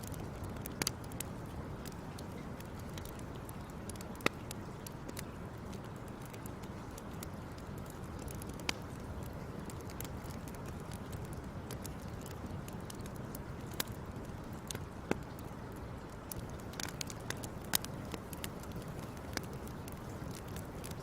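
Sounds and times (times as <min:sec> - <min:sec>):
low rumble of burning: 0:00.0 - 0:21.0
wood fire pops and snaps: 0:00.0 - 0:21.0.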